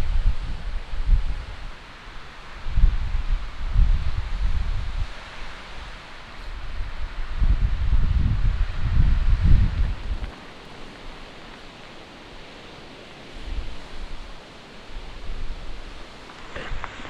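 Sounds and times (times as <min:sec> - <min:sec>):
steady rushing hiss: 0:00.0 - 0:17.0
wind rumbling on microphone: 0:00.0 - 0:17.0.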